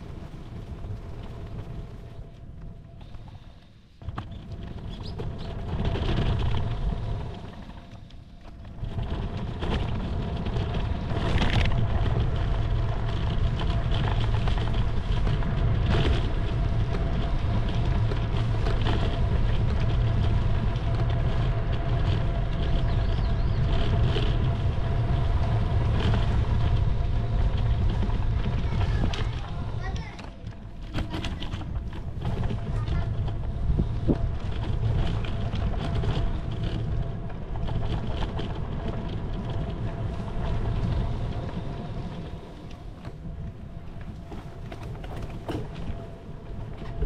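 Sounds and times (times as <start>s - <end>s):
road noise: 0.0s - 47.0s
wind rumble on microphone: 0.0s - 47.0s.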